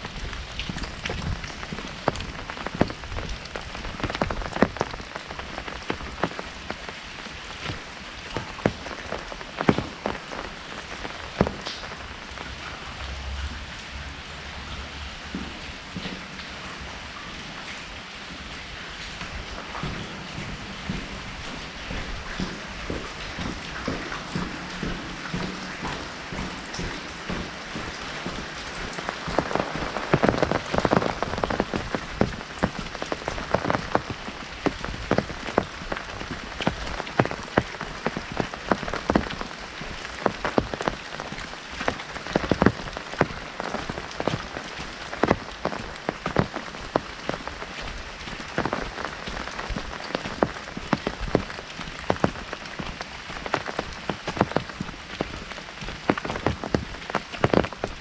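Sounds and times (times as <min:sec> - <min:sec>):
heavy rain on an umbrella: 0:00.0 - 0:58.0.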